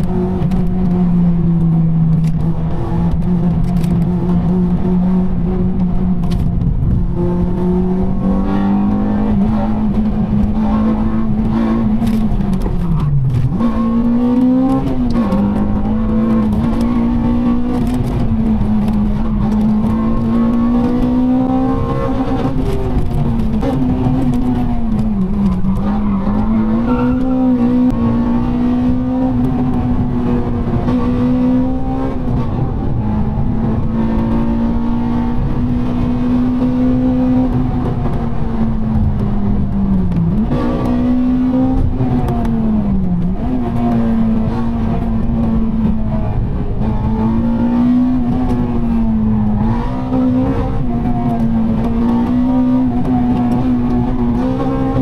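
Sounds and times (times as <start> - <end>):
car engine pulling hard: 0.0 - 55.0
tyre and road noise: 0.0 - 55.0.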